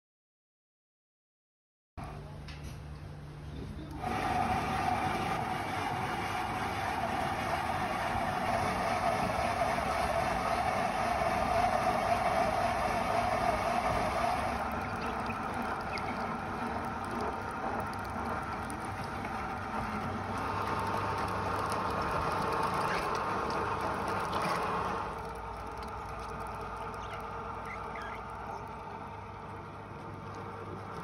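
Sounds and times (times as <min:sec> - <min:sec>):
electric paste machine running: 0:03.9 - 0:31.0.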